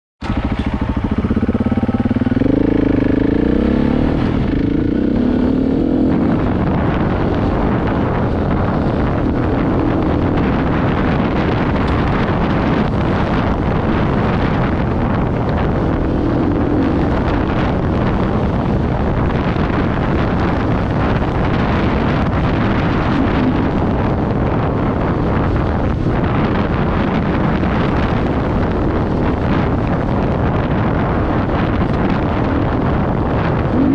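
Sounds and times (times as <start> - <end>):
motorcycle engine accelerating: 0.2 - 33.9
wind noise: 0.2 - 33.9.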